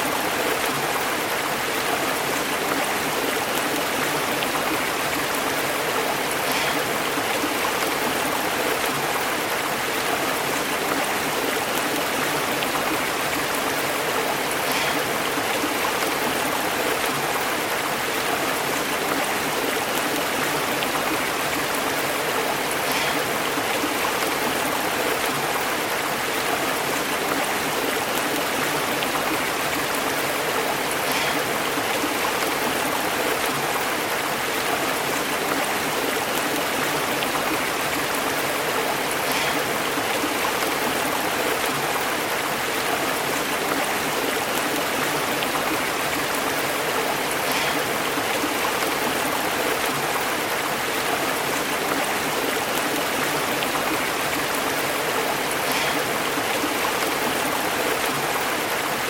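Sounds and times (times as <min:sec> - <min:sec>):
stream burbling over rocks: 0:00.0 - 0:59.0.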